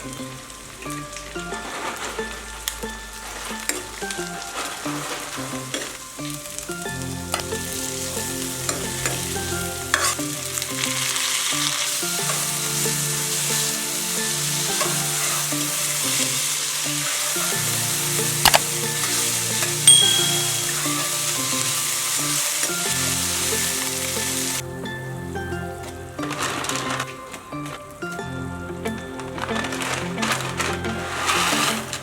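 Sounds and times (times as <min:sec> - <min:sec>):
food sizzling in a pan: 0:00.0 - 0:24.6, 0:29.0 - 0:32.0.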